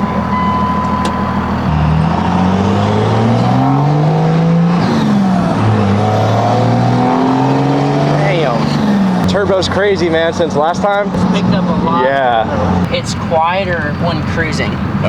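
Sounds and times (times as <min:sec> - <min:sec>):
diesel engine accelerating: 0:00.0 - 0:15.0.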